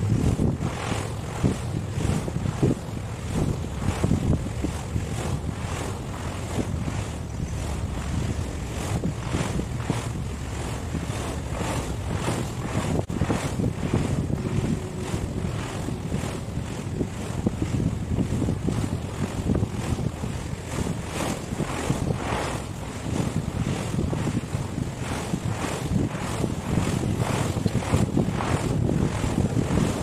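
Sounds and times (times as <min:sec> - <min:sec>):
sea surf: 0:00.0 - 0:30.0
wind buffeting microphone: 0:00.0 - 0:30.0.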